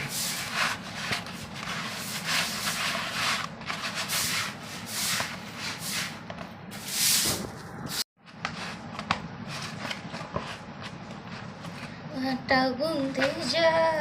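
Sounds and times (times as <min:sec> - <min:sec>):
hands kneading dough: 0:00.0 - 0:12.1.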